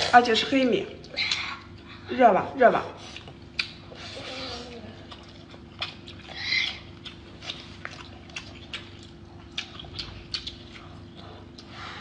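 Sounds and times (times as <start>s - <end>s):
chewing and lip-smacking: 1.0s - 2.1s, 3.0s - 12.0s.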